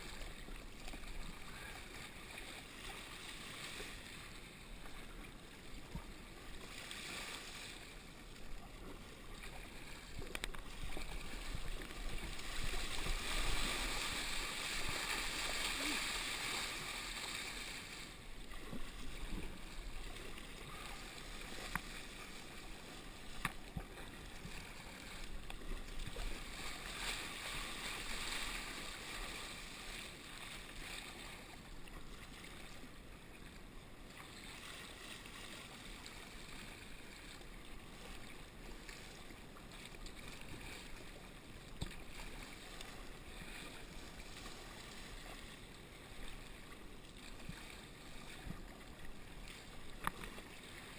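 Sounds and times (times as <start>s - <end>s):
paddle strokes: 0.0s - 50.9s
water splashing along hull: 0.0s - 50.9s.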